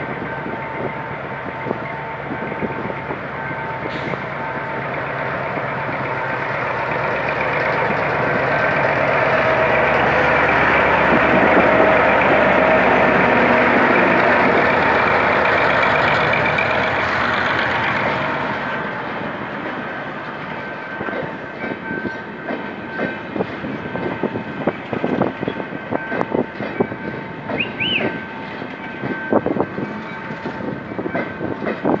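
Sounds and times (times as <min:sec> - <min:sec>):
locomotive engine: 0:00.0 - 0:32.0
train wheels clacking on rails: 0:00.0 - 0:32.0.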